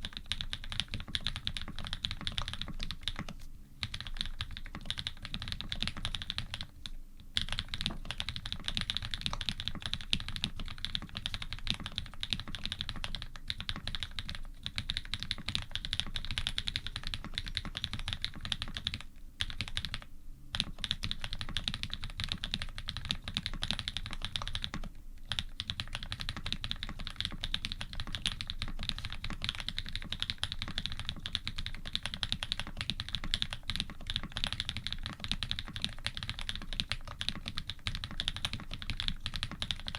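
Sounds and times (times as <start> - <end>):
mechanical keyboard typing: 0.0 - 6.7, 7.4 - 39.9.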